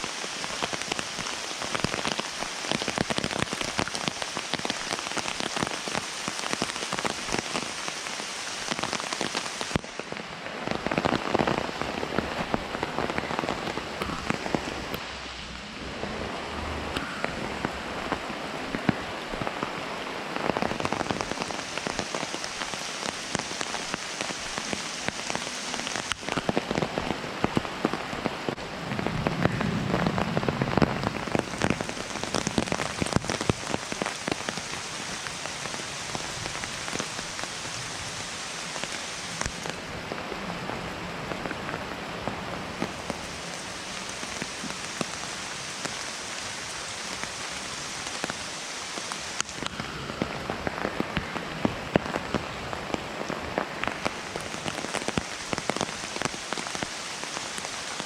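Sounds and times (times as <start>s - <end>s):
heavy rain hissing: 0.0s - 58.0s
raindrops hitting close by: 0.0s - 58.0s.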